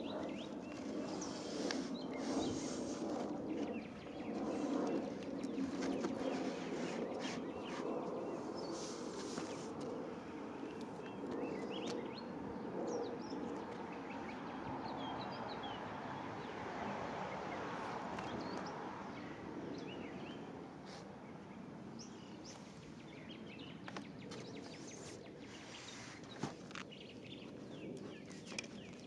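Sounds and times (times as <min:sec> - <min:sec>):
small birds chirping: 0:00.0 - 0:16.6, 0:18.2 - 0:29.0.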